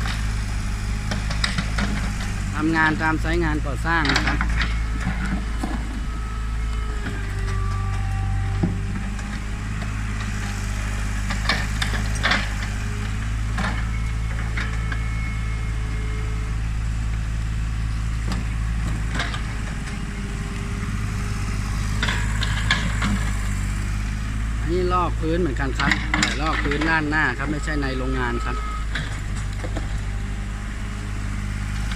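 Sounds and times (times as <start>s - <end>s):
excavator diesel engine running: 0.0s - 31.9s.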